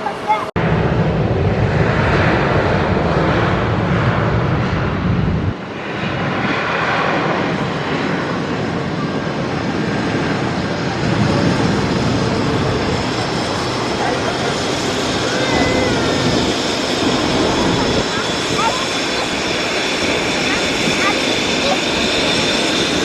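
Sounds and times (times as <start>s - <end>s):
jet airliner engines passing: 0.0s - 23.0s
wind rumble on microphone: 0.6s - 23.0s.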